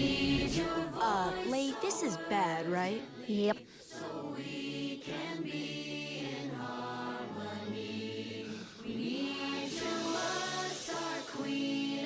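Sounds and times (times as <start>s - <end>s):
chorus singing long notes: 0.0s - 12.0s.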